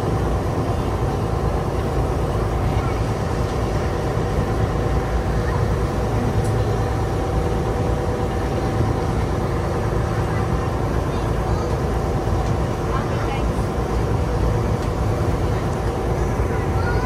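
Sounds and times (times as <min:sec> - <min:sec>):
boat engine running: 0:00.0 - 0:17.0
water rushing against hull: 0:00.0 - 0:17.0.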